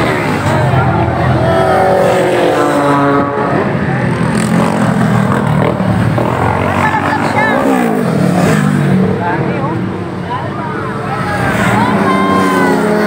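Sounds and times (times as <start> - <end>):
vehicle engines passing: 0.0 - 13.0.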